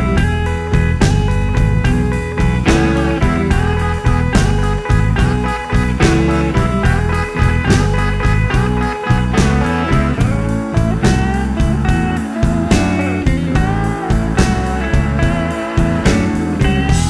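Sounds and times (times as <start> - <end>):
bass: 0.0 - 17.0
slide guitar gliding: 0.0 - 17.0
steady drum beat: 0.0 - 17.0.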